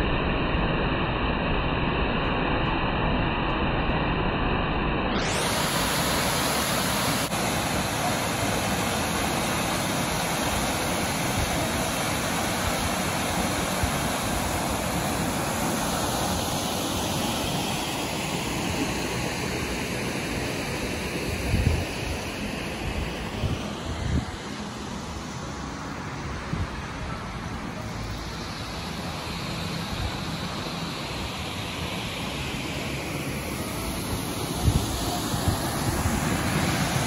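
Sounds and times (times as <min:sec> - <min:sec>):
waterfall roaring: 0:05.2 - 0:37.0.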